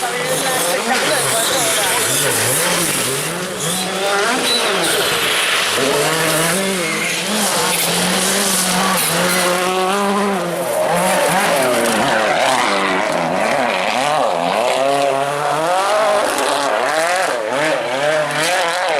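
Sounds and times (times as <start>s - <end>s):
rally car engine revving through gears: 0.0s - 18.9s.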